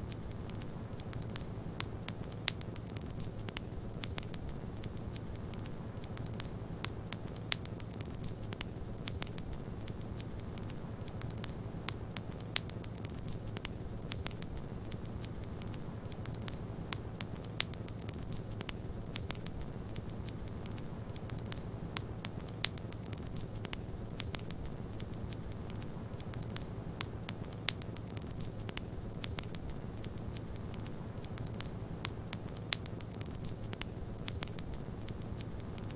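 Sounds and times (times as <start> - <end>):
wood fire crackling: 0.0 - 35.9
fire pops: 0.1 - 35.9.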